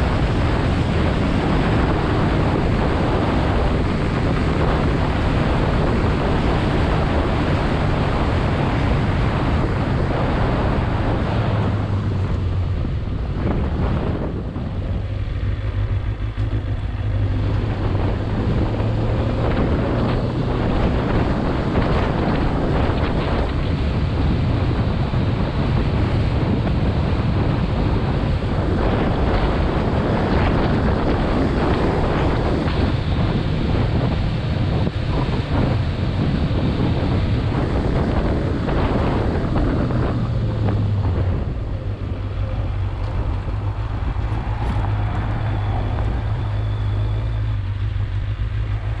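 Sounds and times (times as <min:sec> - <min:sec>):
motorcycle engine humming: 0:00.0 - 0:49.0
wind rushing over microphone: 0:00.0 - 0:49.0.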